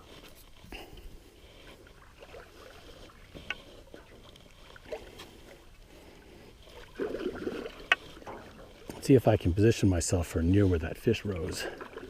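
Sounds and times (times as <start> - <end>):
paddle splashing water: 0.0 - 12.0.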